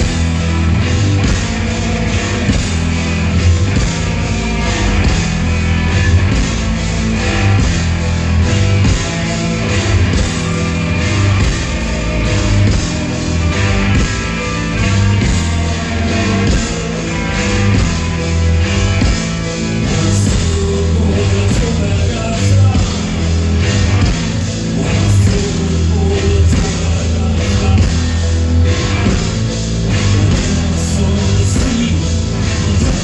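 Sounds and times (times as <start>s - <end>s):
heavy bass line: 0.0s - 33.0s
live rock band playing: 0.0s - 33.0s.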